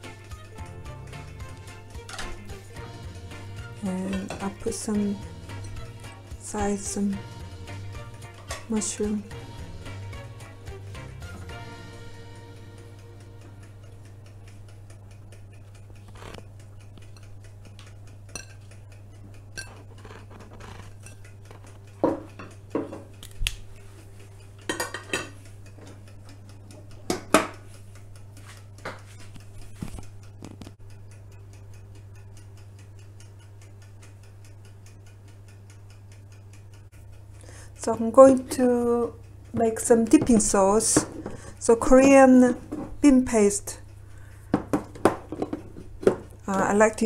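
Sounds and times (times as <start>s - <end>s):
steady low hum: 0.0s - 47.0s
tongs clicking on grill rack: 3.6s - 9.5s, 13.6s - 23.8s, 24.4s - 30.6s, 31.2s - 47.0s.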